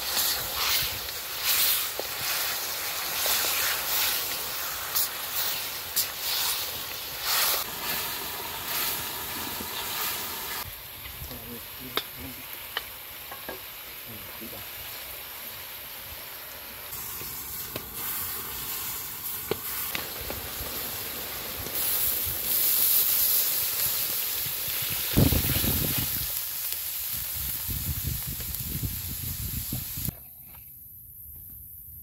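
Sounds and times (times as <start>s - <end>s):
food sizzling in a pan: 0.0s - 30.2s.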